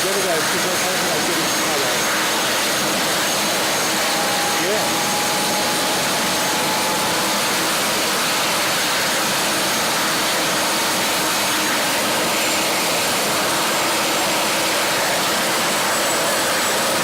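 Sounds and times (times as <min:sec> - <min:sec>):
helicopter turbine engines: 0:00.0 - 0:17.0.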